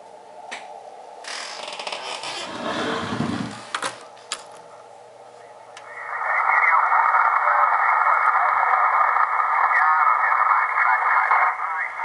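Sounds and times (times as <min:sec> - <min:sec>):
radio receiver band noise hiss: 0:00.0 - 0:12.0.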